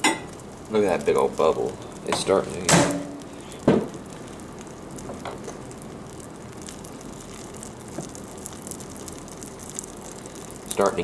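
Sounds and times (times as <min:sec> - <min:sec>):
low steady hum: 0:00.0 - 0:11.0
melted plastic crackling and sizzling: 0:00.0 - 0:11.0.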